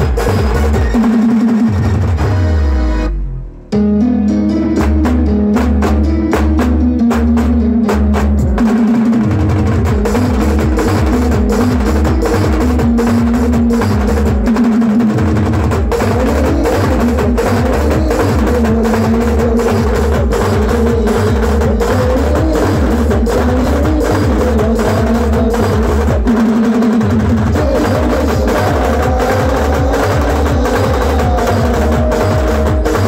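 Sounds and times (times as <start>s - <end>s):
band playing loud music: 0.0s - 33.0s
heavy bass drum beat: 0.0s - 33.0s
fast stick drumming: 4.8s - 33.0s.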